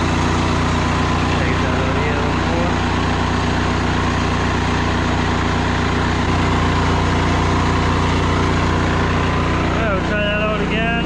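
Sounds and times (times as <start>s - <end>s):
gas engine idling: 0.0s - 11.0s.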